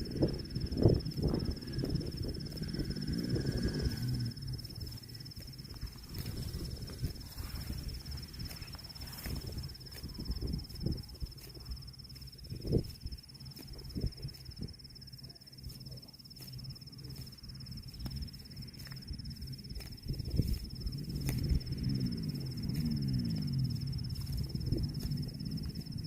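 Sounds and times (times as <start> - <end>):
low rumbling: 0.0 - 15.2, 16.6 - 26.0
high insect trill: 0.0 - 26.0.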